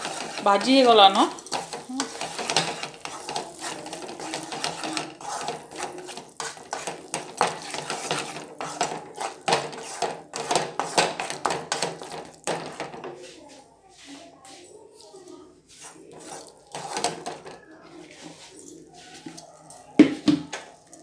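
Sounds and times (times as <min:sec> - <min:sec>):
wooden spatula scraping metal pan: 0:00.0 - 0:20.8
paste frying: 0:00.0 - 0:21.0.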